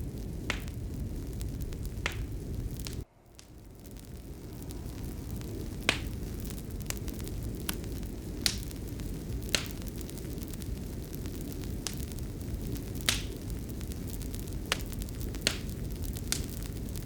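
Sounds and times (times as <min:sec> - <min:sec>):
sharp pops from fire: 0:00.0 - 0:17.0
wood fire crackling: 0:00.0 - 0:17.0.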